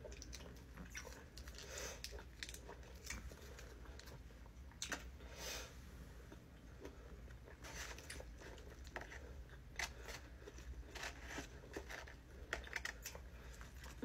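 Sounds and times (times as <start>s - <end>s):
chewing crunches: 0.0s - 5.1s, 6.3s - 14.0s
low steady hum: 0.0s - 14.0s.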